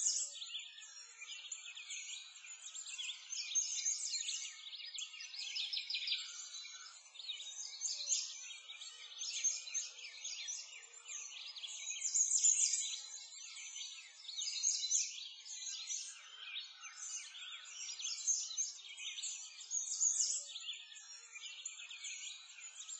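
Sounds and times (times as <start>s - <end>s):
songbirds chirping and singing: 0.0s - 22.9s.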